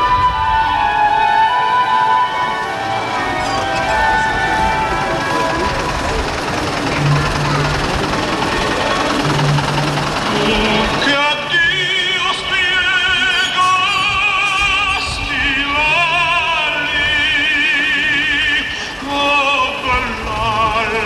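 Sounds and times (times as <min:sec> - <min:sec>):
operatic singing: 0:00.0 - 0:21.0.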